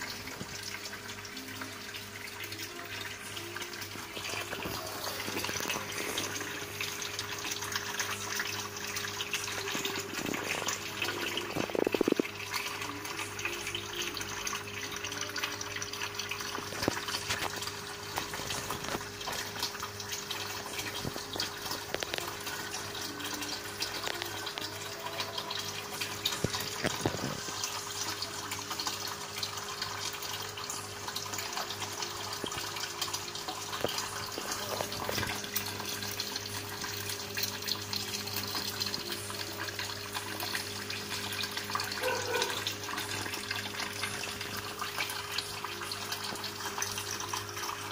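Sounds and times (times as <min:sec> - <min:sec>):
water splashing into tank: 0:00.0 - 0:47.9.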